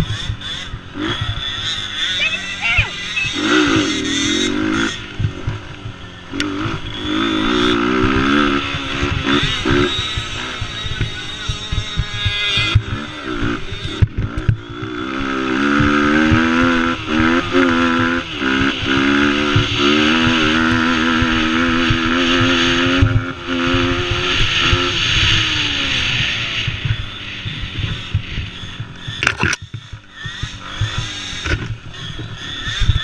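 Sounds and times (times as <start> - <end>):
small engine revving high: 0.0 - 33.0.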